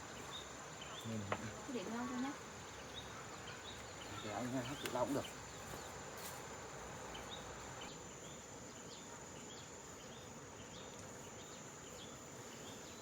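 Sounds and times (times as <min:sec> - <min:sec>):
insect chirp: 0:00.0 - 0:13.0.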